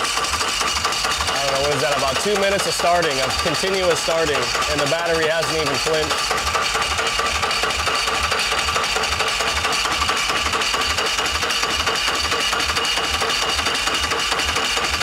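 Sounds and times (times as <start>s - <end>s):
engine compression chugging: 0.0s - 15.0s
starter motor whine: 0.0s - 15.0s.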